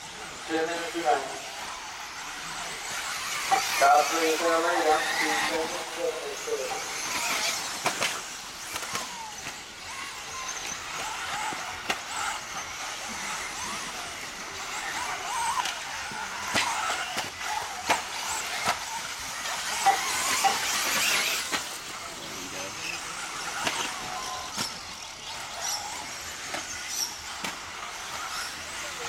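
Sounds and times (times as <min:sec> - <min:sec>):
toy car motor whine: 0:00.0 - 0:29.0.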